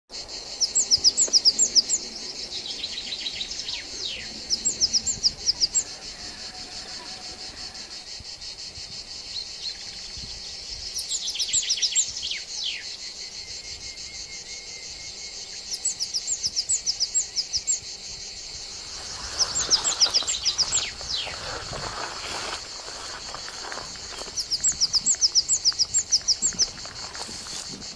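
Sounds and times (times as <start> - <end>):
high-pitched insect drone: 0.2 - 27.9.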